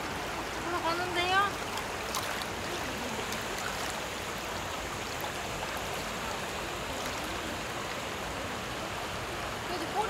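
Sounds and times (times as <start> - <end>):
stream running over stones: 0.0 - 10.0.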